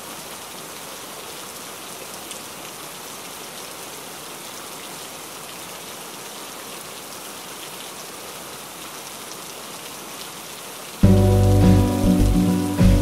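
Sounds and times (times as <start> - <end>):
rain on a window pane: 0.0 - 13.0.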